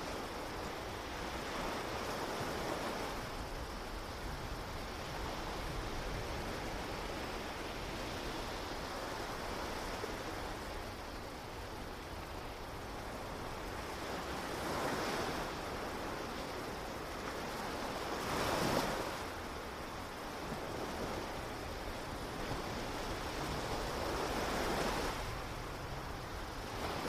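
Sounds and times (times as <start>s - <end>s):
ocean waves washing in: 0.0s - 27.0s.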